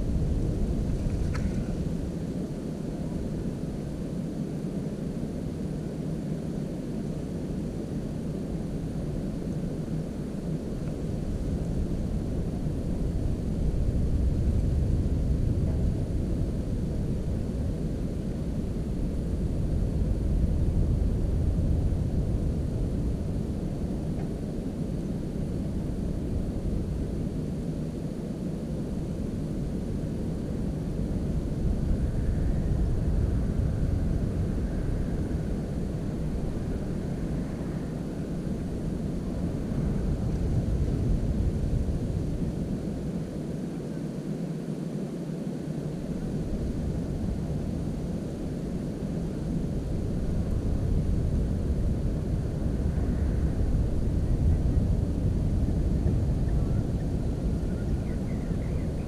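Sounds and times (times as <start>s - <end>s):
wind buffeting microphone: 0.0s - 4.3s, 6.8s - 44.5s, 45.6s - 59.0s.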